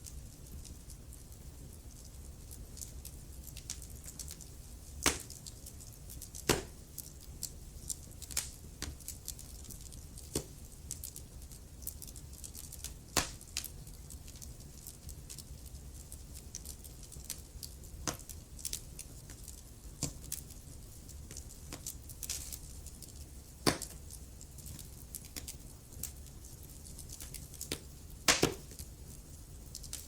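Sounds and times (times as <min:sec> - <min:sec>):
fire popping: 0:00.0 - 0:30.0
wood fire crackling: 0:00.0 - 0:30.0.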